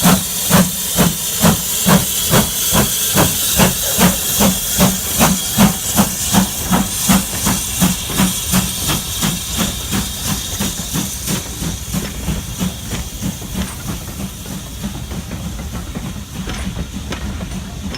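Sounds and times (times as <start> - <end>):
steam hiss: 0.0 - 17.9
steam locomotive chuffing: 0.0 - 17.9.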